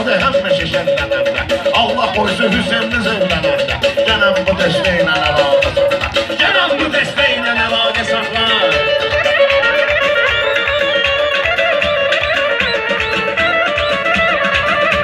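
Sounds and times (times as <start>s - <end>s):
plucked-string melody: 0.0s - 15.0s
steady drum beat: 0.0s - 15.0s.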